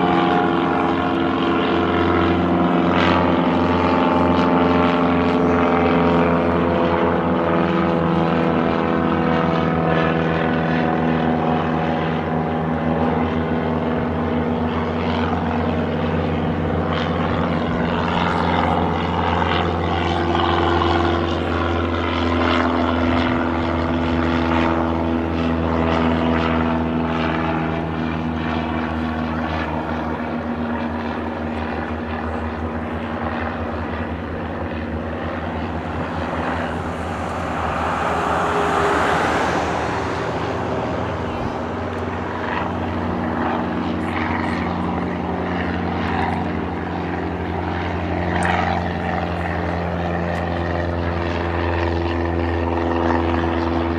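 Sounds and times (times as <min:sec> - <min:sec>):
propeller aircraft engines droning: 0:00.0 - 0:53.9.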